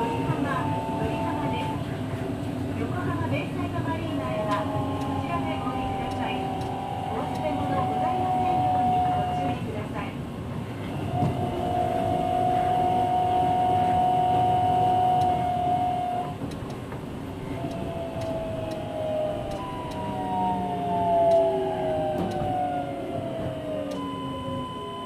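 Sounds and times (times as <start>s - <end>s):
low rumble of moving train: 0.0s - 25.0s
train inverter whine: 0.0s - 25.0s.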